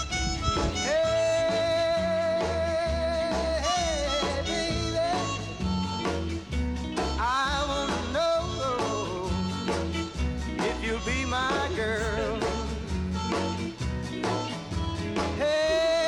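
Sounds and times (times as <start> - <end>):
upbeat country song: 0.0 - 16.0.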